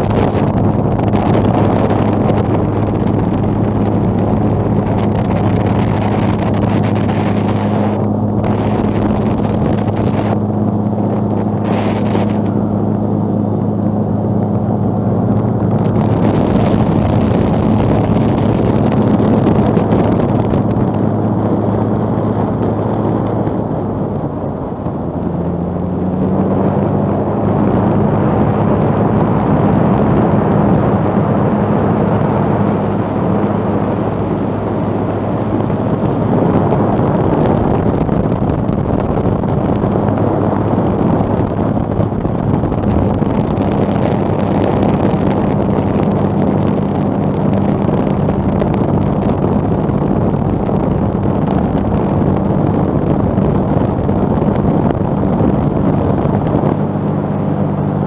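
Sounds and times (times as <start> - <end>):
microlight engine running: 0.0 - 58.0
wind rushing over microphone: 0.0 - 58.0.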